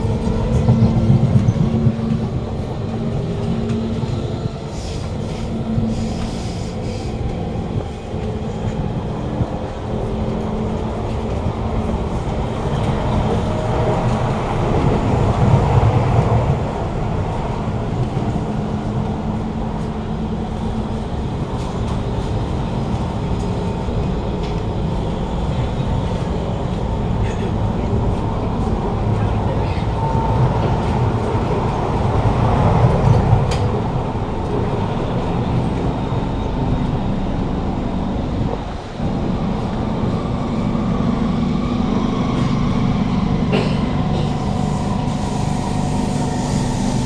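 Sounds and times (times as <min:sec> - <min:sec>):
train wheels rumbling on track: 0:00.0 - 0:47.0.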